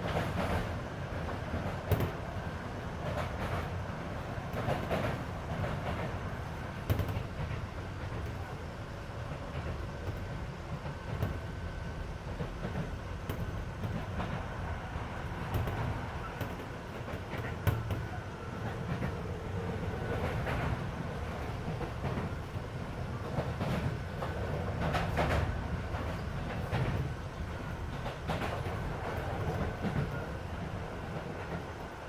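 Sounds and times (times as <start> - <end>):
train low rumble: 0.0 - 32.0
wheel clacks over rail joints: 1.3 - 2.4, 3.0 - 14.6, 15.2 - 32.0.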